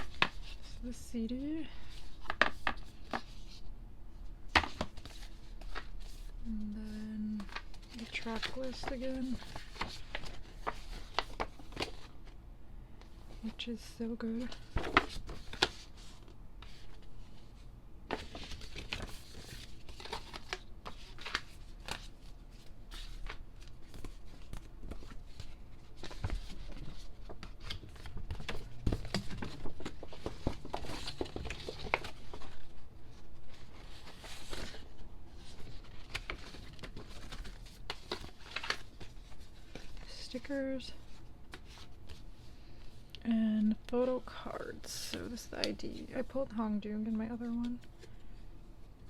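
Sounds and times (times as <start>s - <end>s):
paper and plastic rustling: 0.0s - 3.7s, 4.5s - 12.4s, 13.0s - 43.2s.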